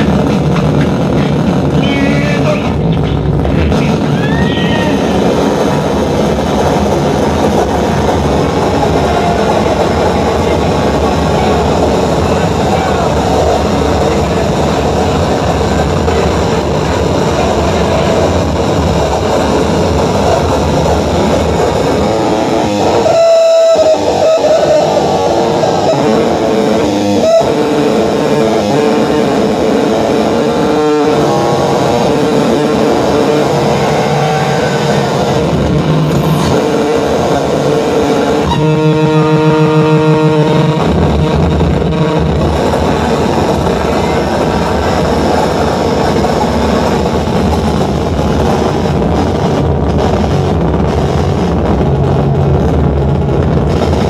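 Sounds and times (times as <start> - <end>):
buzzing rapid pulsing: 0.0 - 54.0
distorted electronic noise: 0.0 - 54.0
held drone: 0.0 - 54.0
low rumble: 0.0 - 54.0.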